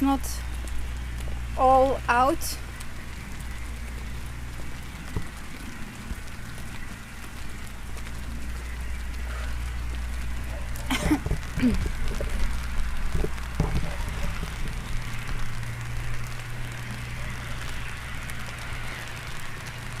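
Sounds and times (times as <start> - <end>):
rain falling: 0.0 - 20.0
steady low rumble: 0.0 - 20.0.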